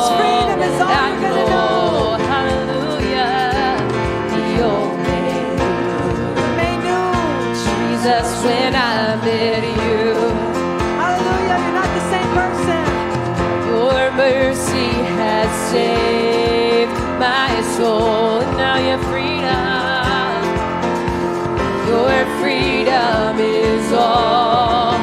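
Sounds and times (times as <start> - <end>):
live band with guitar and drums: 0.0 - 25.0.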